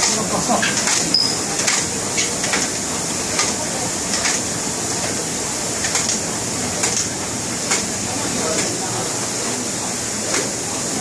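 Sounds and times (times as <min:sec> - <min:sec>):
rowing machine flywheel whirring: 0:00.0 - 0:11.0.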